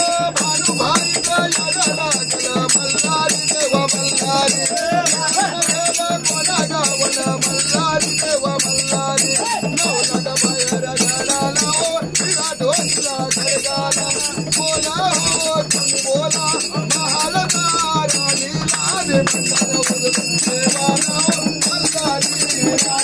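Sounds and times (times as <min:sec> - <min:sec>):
hand percussion fast beat: 0:00.0 - 0:23.0
man singing devotional song: 0:00.0 - 0:23.0.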